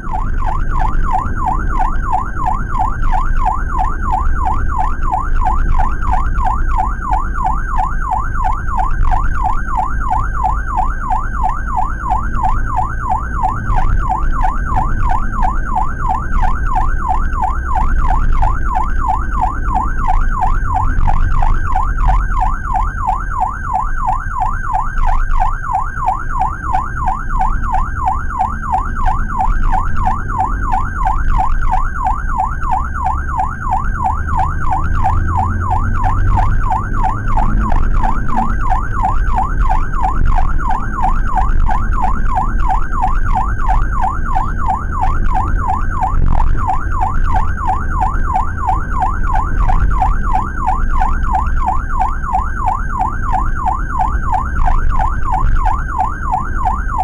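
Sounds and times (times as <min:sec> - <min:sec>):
ambulance siren yelping: 0:00.0 - 0:57.0
engine and road rumble: 0:00.0 - 0:57.0.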